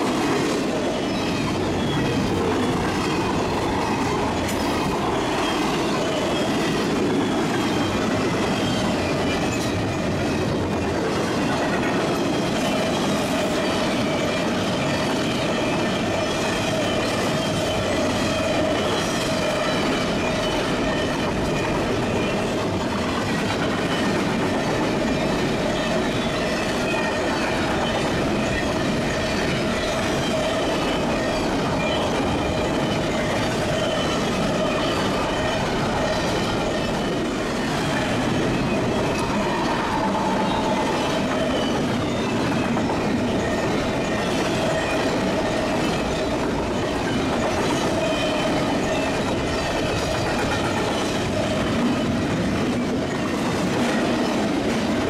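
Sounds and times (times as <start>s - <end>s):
train cars rumbling and rattling: 0.0s - 55.0s.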